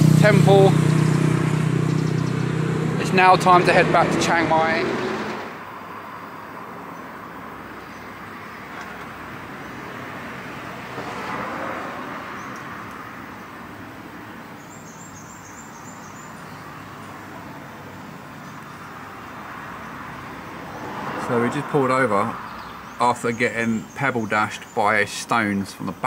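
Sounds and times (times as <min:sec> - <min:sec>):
road traffic noise: 0:00.0 - 0:26.0
vehicle passing: 0:00.0 - 0:26.0.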